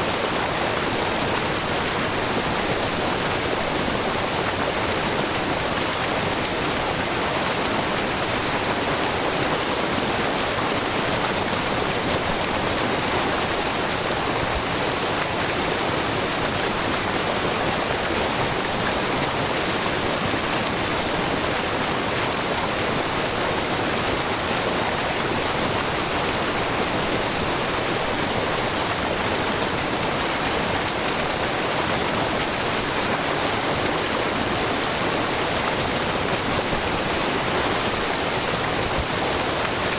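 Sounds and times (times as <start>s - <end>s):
waterfall splashing into pool: 0.1s - 39.9s.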